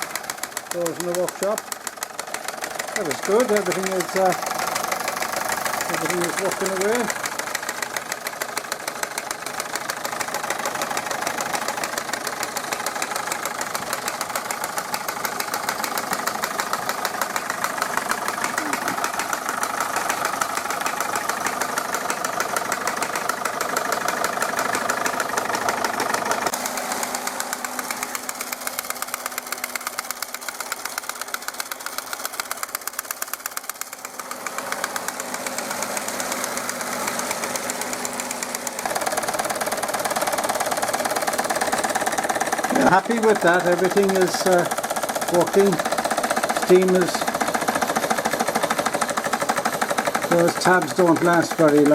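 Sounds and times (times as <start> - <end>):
clatter of belt-driven models: 0.0 - 51.9
model steam engine running fast: 0.0 - 51.9.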